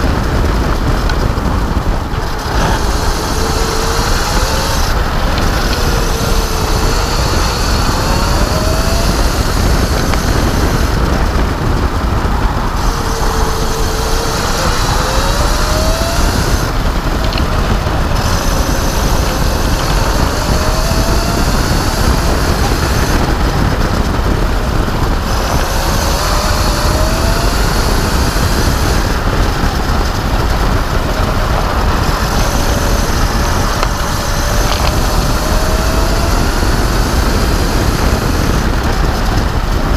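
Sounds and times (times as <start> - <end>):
electric motor whine: 0.0 - 39.9
wind rumble on microphone: 0.0 - 39.9.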